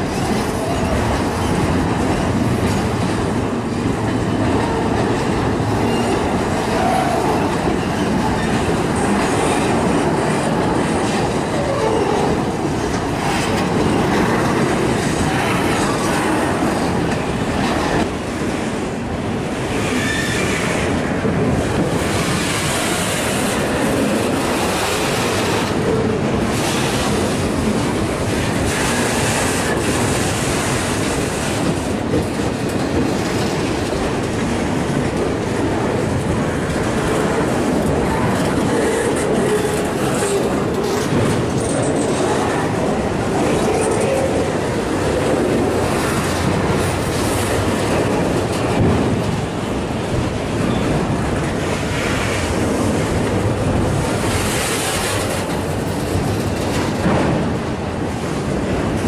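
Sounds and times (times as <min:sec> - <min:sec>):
freight train wheels rumbling: 0:00.0 - 0:59.0
wheels clicking over rail joints: 0:00.0 - 0:59.0.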